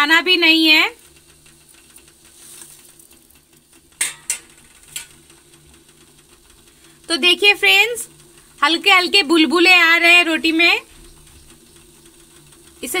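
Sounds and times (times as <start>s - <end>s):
faint steady hum: 0.0s - 13.0s
water bubbling lightly in pot: 0.0s - 13.0s.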